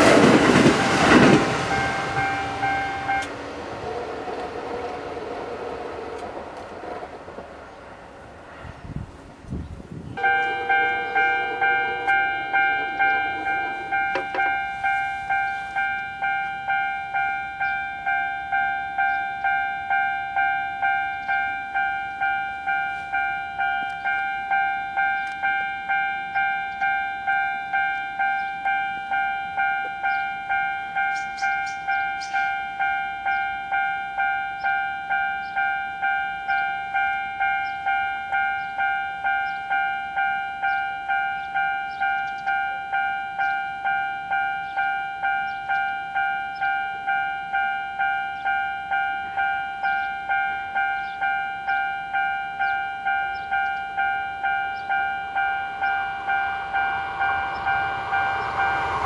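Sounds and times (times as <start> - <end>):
level-crossing warning bell: 0.0 - 8.4, 10.2 - 59.0.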